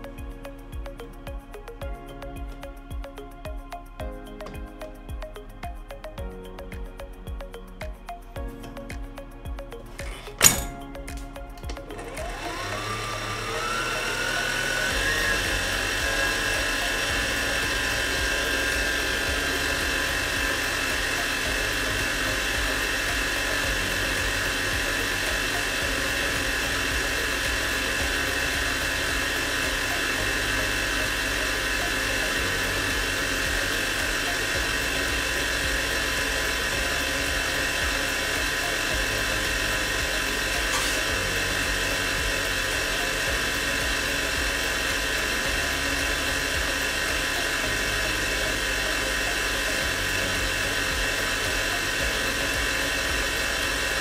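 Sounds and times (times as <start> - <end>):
electric mixer motor whine: 0.0 - 54.0.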